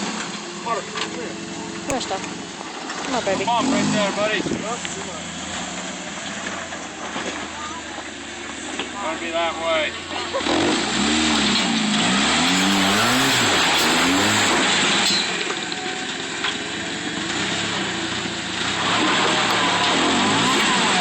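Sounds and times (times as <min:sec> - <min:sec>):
engine revving: 0:00.0 - 0:15.8, 0:17.3 - 0:21.0.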